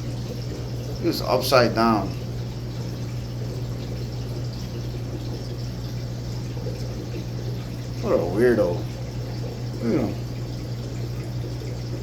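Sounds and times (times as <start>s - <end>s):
aquarium water bubbling: 0.0s - 12.0s
low filter hum: 0.0s - 12.0s.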